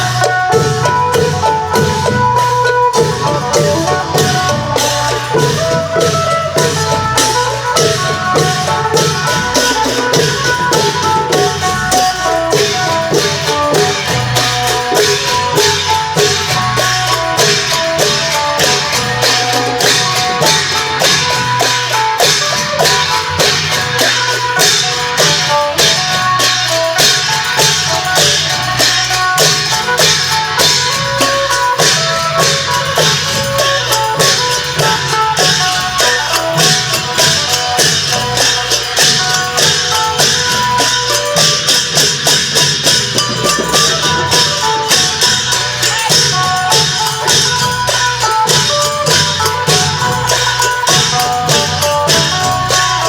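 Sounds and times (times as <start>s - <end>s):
long-drum band fast beat: 0.0s - 53.0s
rapid cymbal strokes: 0.0s - 53.0s.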